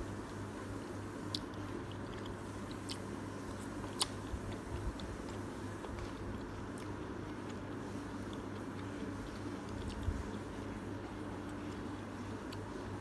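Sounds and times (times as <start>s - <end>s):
steady low hum: 0.0s - 13.0s
person chewing noodles: 1.3s - 13.0s.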